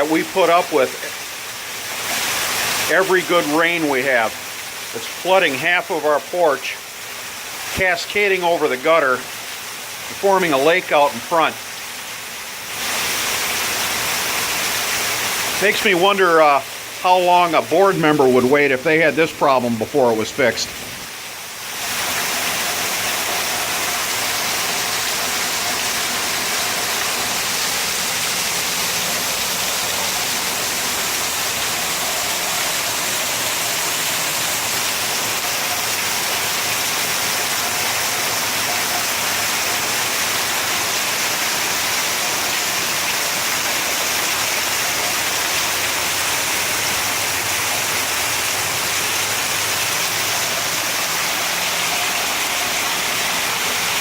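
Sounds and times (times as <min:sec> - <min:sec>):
heavy rain: 0:00.0 - 0:54.0
water cascading from gutter: 0:00.0 - 0:54.0.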